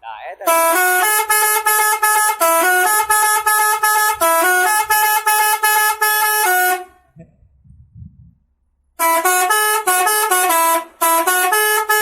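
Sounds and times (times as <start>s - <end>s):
musical air horn tune: 0.4s - 7.1s, 9.0s - 12.0s.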